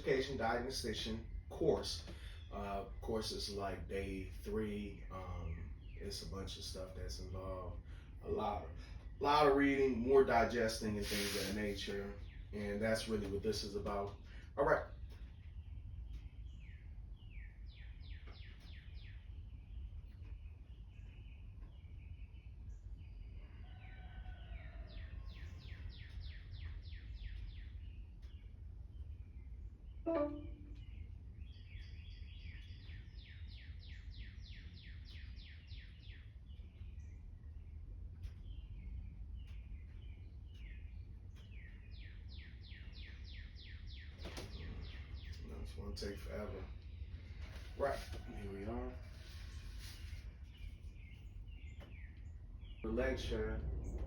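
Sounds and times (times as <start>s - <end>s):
steady low hum: 0.0s - 23.3s, 33.0s - 54.0s
songbirds singing: 0.0s - 54.0s.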